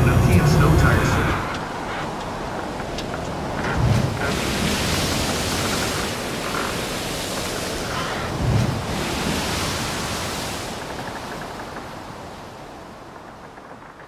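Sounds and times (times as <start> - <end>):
sea waves washing: 0.0 - 14.0
wind on microphone: 0.0 - 14.0.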